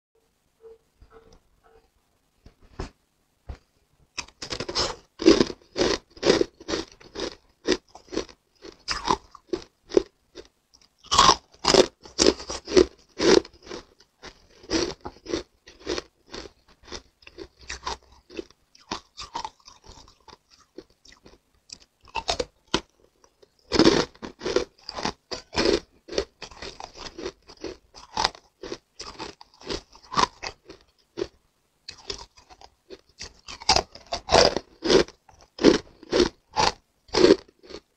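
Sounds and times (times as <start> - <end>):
crunching and chewing ice: 4.2 - 37.9.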